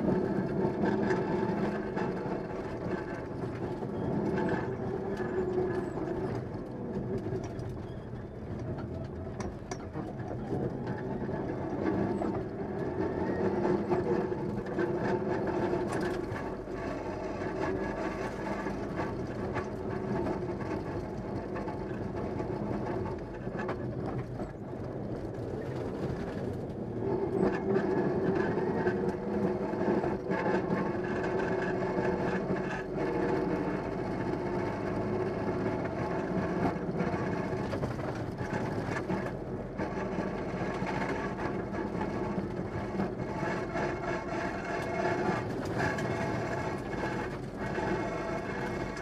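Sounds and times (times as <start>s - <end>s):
car engine running hard: 0.0s - 49.0s
gravel road noise: 0.0s - 49.0s.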